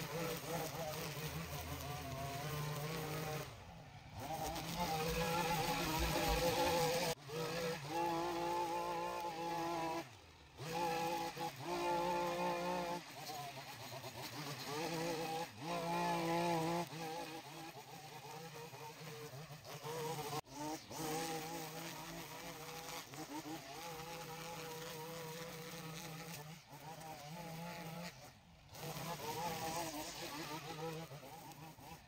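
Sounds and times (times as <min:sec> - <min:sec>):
small petrol engine running: 0:00.0 - 0:32.0.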